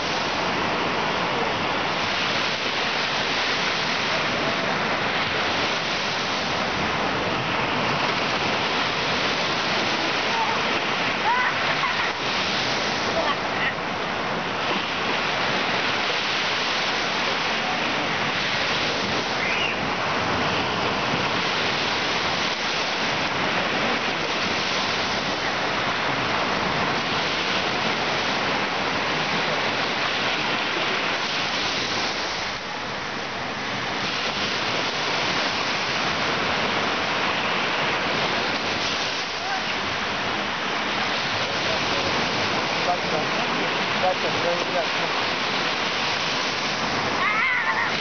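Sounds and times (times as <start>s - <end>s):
small waves breaking on shore: 0.0s - 48.0s.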